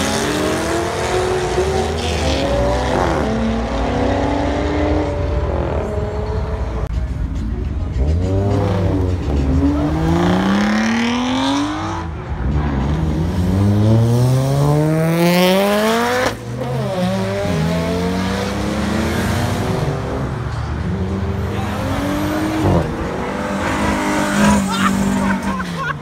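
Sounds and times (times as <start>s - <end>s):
car engine revving: 0.0s - 6.9s, 7.9s - 25.6s.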